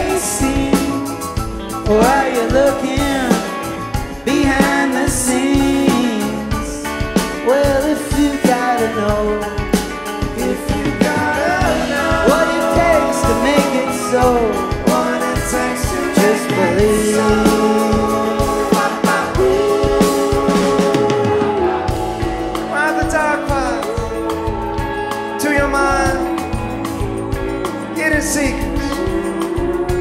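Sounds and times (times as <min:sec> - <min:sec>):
gliding lead guitar melody: 0:00.0 - 0:30.0
rock band playing: 0:00.0 - 0:30.0.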